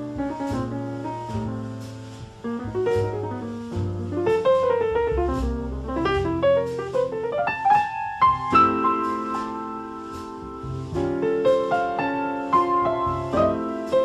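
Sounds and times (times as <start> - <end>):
jazzy piano melody: 0.0 - 14.0
low bass notes: 0.0 - 14.0.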